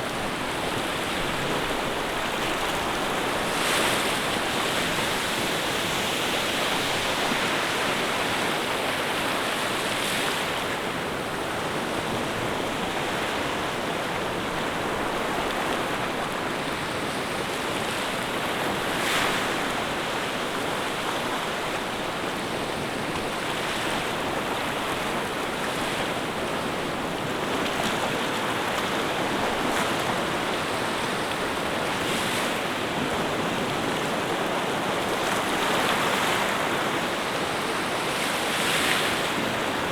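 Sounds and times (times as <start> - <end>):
rush of moving water: 0.0 - 39.9.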